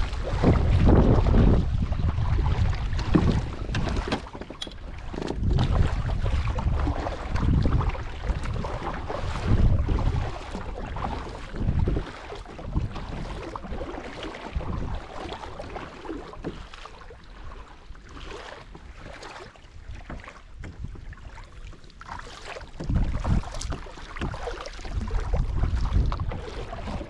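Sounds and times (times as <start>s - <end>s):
wind buffeting microphone: 0.0s - 15.8s, 19.8s - 21.4s, 22.7s - 27.0s
water splashing and lapping: 0.0s - 27.0s.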